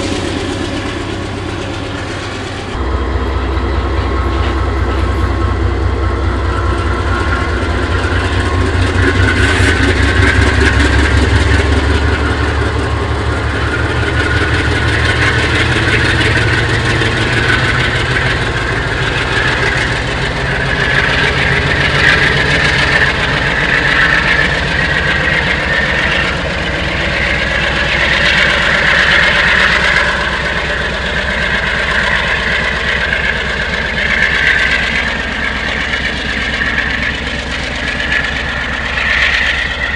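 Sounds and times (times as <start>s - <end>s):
diesel locomotive engine rumbling: 0.0s - 39.9s.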